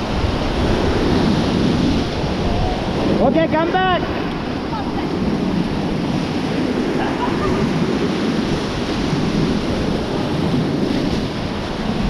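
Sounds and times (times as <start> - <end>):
white water rushing: 0.0 - 12.0
wind buffeting microphone: 0.0 - 12.0.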